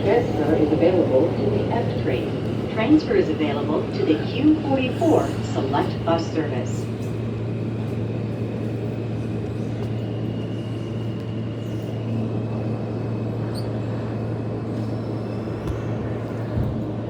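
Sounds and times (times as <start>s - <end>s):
subway car ventilation hum: 0.0s - 17.0s.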